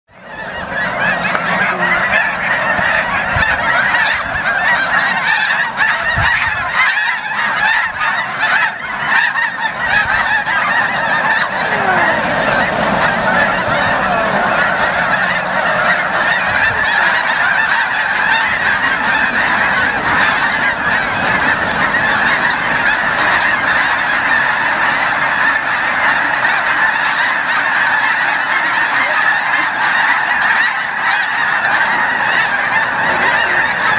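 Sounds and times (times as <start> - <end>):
flock of geese honking: 0.1 - 33.9.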